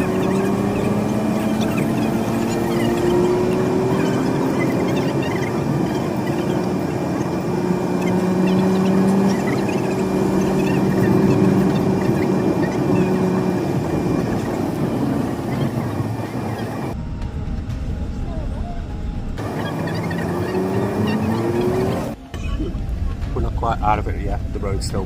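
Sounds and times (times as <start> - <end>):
vehicle road and engine noise: 0.0 - 25.0.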